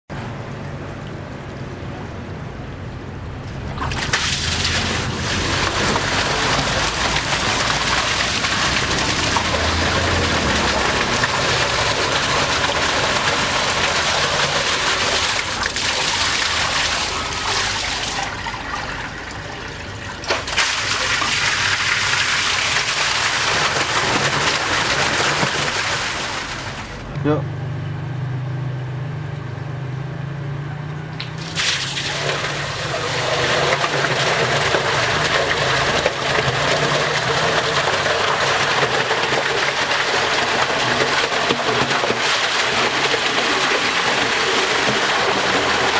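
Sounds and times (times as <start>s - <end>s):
water gushing and splashing: 3.0s - 27.1s, 31.2s - 45.9s.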